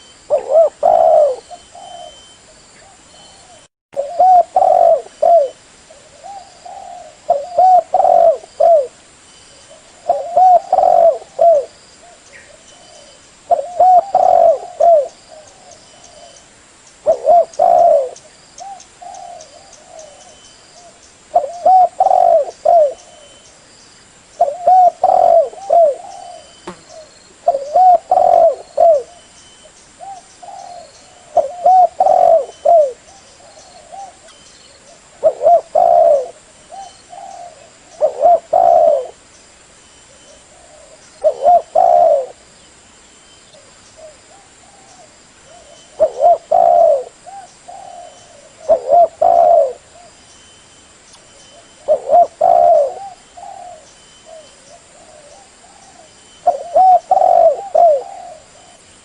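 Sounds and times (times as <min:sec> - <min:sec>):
dove cooing: 0:00.0 - 0:09.0, 0:09.7 - 0:16.4, 0:17.0 - 0:23.4, 0:24.4 - 0:29.2, 0:30.0 - 0:39.2, 0:40.1 - 0:42.4, 0:43.5 - 0:50.2, 0:51.5 - 0:58.8.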